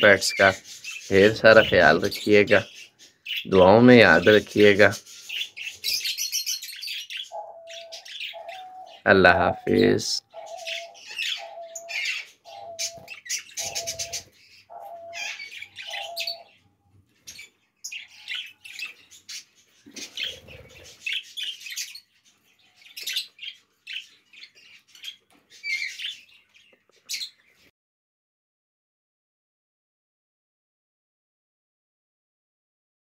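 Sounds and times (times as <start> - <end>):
budgerigars chirping: 0.0 - 27.7.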